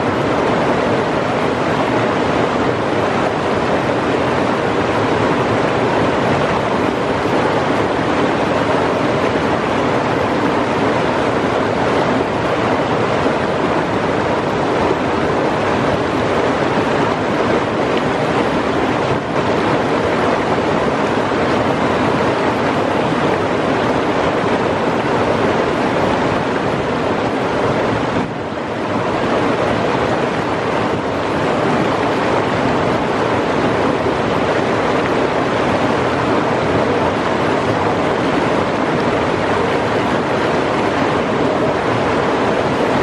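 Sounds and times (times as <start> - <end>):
river rushing over rocks: 0.0 - 43.0.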